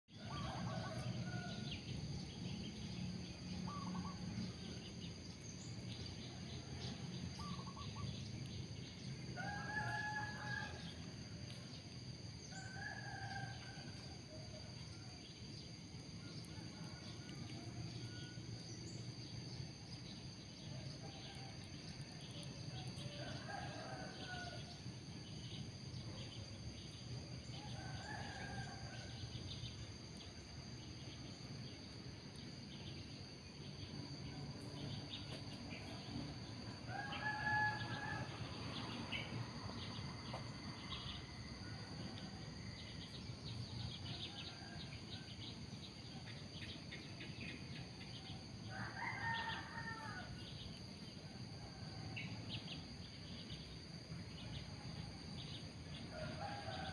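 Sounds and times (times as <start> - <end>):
high insect drone: 0.1 - 56.9.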